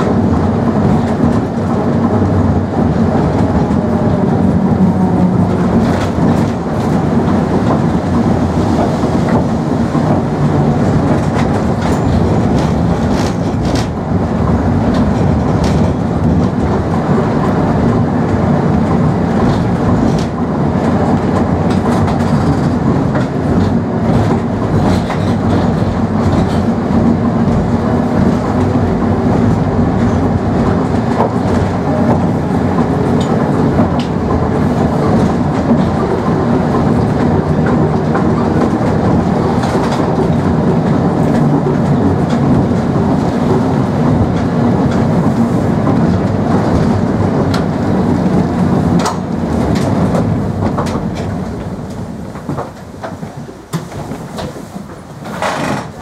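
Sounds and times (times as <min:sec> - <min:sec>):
streetcar body rattling: 0:00.0 - 0:56.0
streetcar wheels rumbling on rails: 0:00.0 - 0:56.0.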